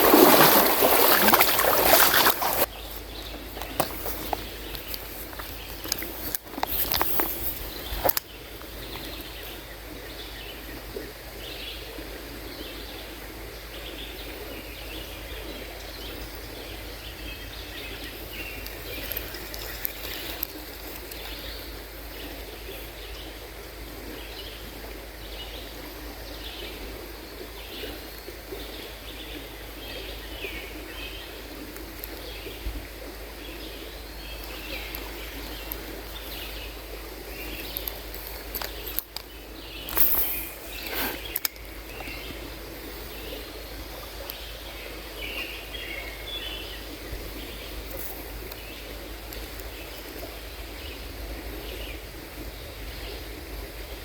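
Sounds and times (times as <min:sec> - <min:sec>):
river water running: 0:00.0 - 0:54.0.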